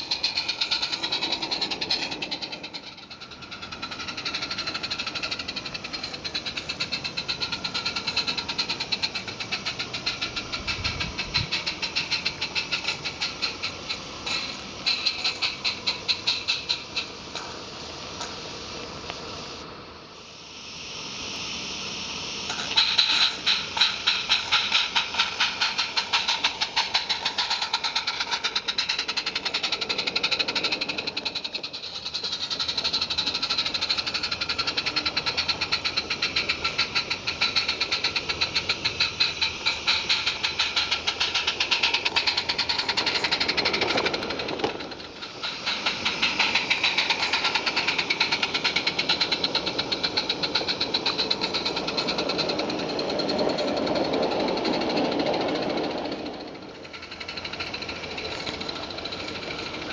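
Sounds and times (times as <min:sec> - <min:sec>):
steam hissing: 0:00.0 - 0:59.9
steam locomotive chuffing: 0:00.0 - 0:59.9.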